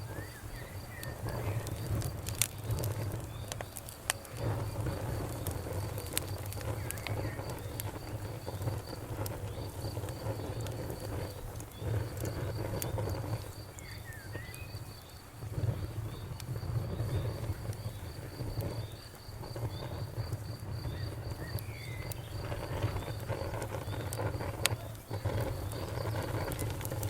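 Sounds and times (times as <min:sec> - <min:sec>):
insects chirping: 0:00.0 - 0:27.0
wood fire crackling and popping: 0:00.0 - 0:27.0.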